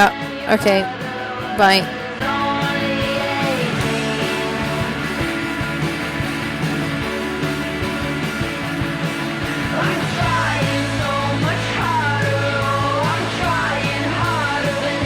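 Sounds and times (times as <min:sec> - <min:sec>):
guitar-led rock song: 0:00.0 - 0:15.0.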